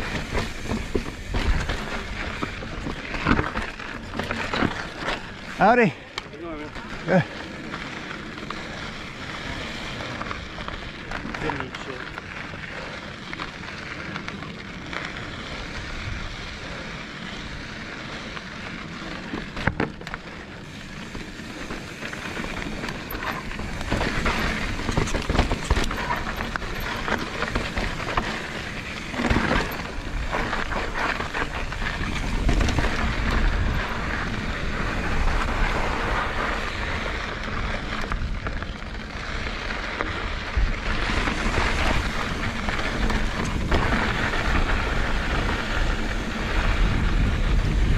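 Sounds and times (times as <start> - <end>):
bike rattling: 0.0 - 47.9
tyres crackling over gravel: 0.0 - 47.9
wind rumbling on microphone: 7.6 - 47.9.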